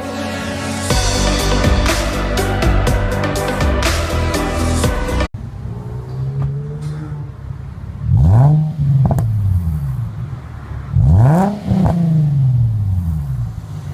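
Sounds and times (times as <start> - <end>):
car engine idling and revving: 0.9 - 13.9.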